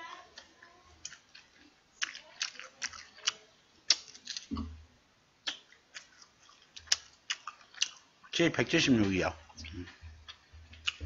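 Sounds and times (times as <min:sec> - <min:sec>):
prawn shells crackling and crunching: 0:00.0 - 0:04.8, 0:05.5 - 0:11.0.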